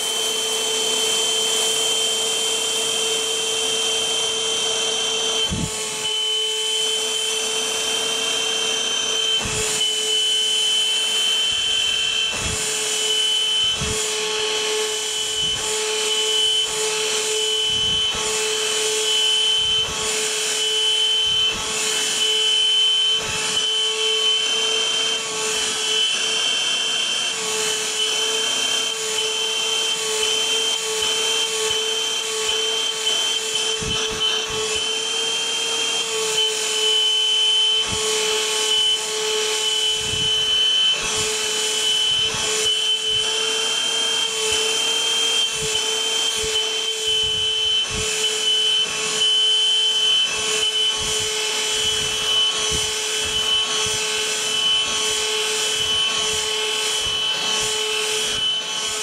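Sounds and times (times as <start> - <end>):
vacuum cleaner motor whining: 0.0 - 59.0.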